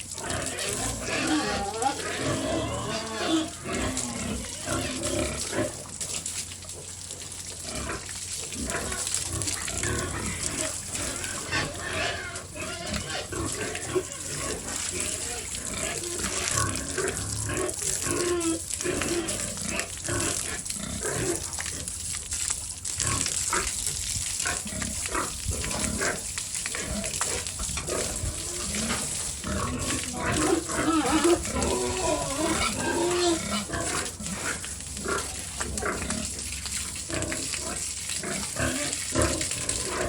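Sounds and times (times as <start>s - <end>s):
pigs grunting: 0.1s - 40.0s.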